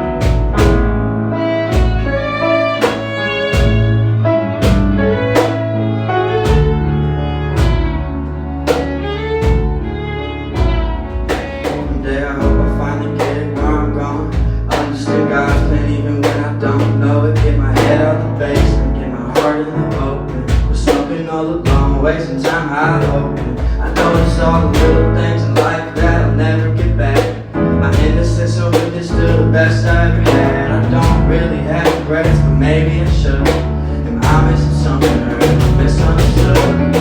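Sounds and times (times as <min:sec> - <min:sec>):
guitar: 0:00.0 - 0:37.0
low bass notes: 0:00.0 - 0:37.0
steady beat: 0:00.0 - 0:37.0.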